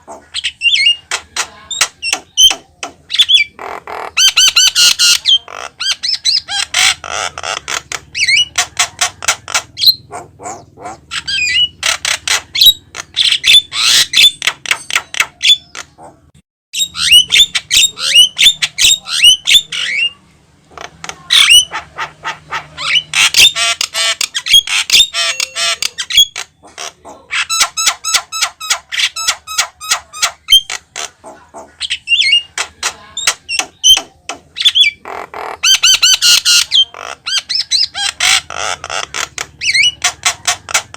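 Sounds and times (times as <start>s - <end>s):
bird calling with harsh squawks: 0.0s - 40.9s.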